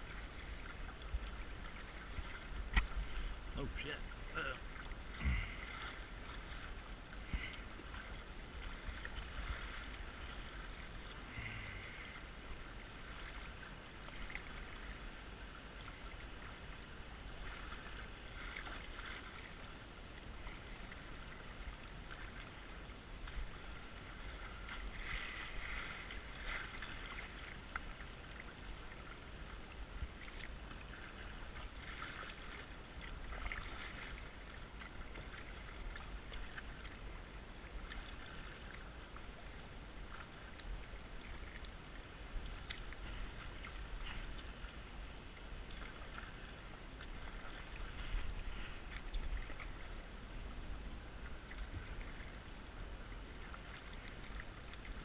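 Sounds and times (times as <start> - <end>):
creek water rushing: 0.0 - 55.0
paddle strokes splashing: 0.0 - 55.0.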